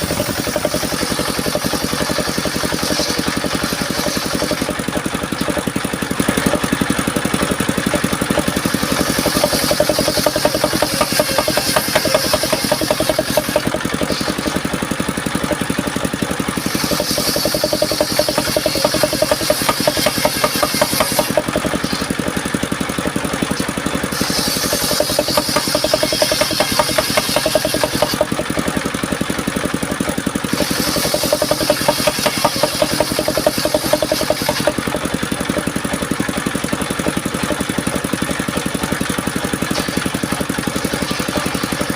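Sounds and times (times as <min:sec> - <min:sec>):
saw blade cutting wood: 0:00.0 - 0:41.9
sawmill engine running: 0:00.0 - 0:41.9.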